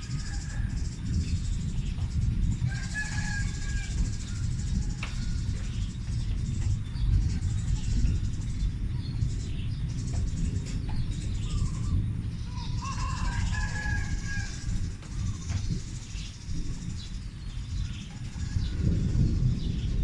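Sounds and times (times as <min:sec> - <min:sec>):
birds chirping: 0:00.0 - 0:20.0
continuous low rumble: 0:00.0 - 0:20.0.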